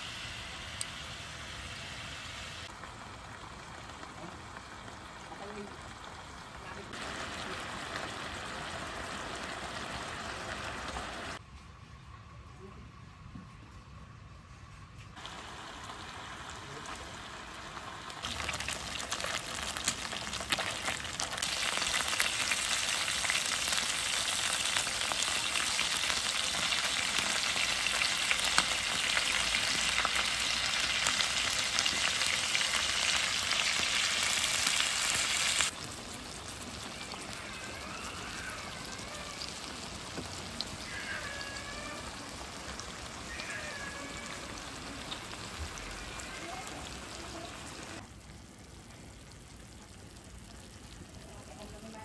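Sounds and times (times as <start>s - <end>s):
food sizzling in oil: 0.0s - 11.4s, 15.2s - 52.0s.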